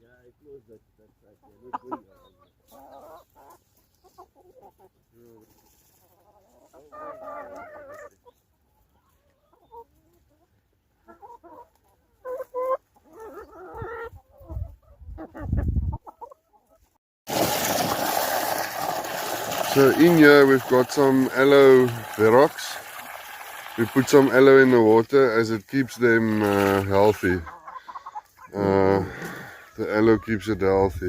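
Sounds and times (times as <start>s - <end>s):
chickens clucking: 1.0s - 16.9s, 18.9s - 31.0s.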